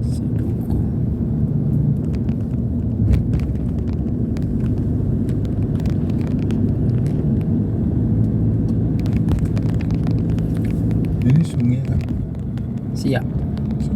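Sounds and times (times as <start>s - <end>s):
vehicle engine and road noise: 0.0s - 13.9s.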